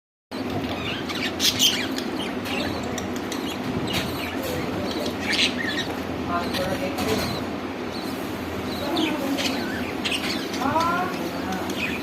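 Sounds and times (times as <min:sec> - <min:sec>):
steady background hum: 0:00.3 - 0:12.0
budgerigars chirping: 0:00.4 - 0:12.0.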